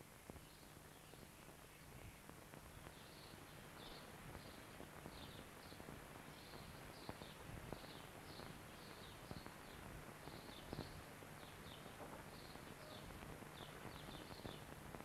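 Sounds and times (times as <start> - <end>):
low hum and hiss: 0.0 - 15.0
faint bird chirping: 0.3 - 14.8.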